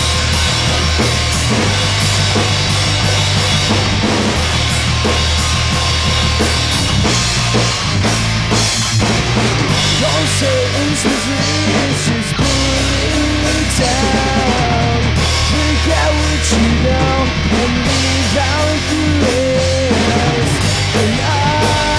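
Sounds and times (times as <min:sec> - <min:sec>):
loud rock song: 0:00.0 - 0:21.9.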